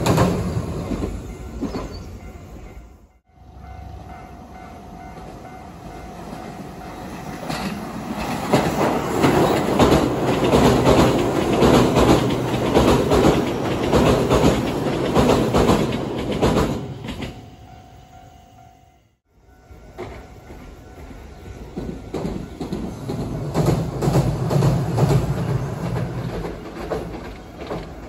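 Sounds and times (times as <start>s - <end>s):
train wheels clattering on bridge: 0.0s - 2.8s, 4.1s - 17.4s, 19.8s - 28.0s.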